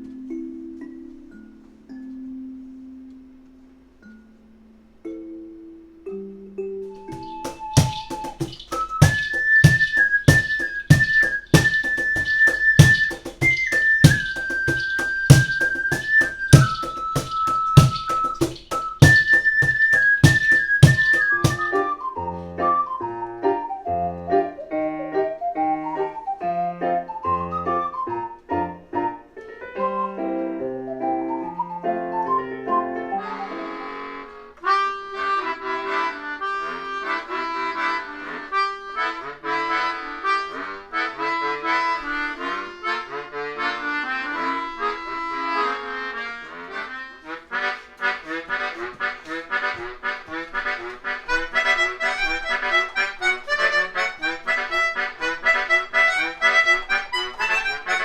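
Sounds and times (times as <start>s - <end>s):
ocarina and keyboard music: 0.0s - 58.0s.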